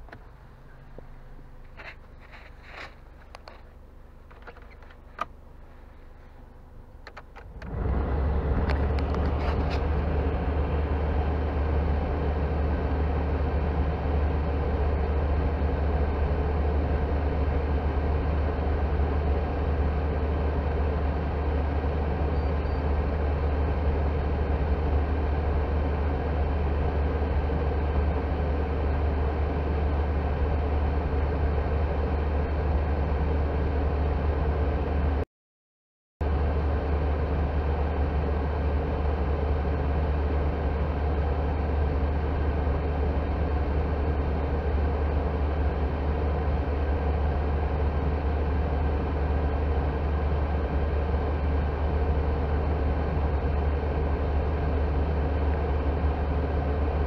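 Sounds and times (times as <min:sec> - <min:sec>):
heater blower fan rushing air: 0:00.0 - 0:35.2, 0:36.3 - 0:57.0.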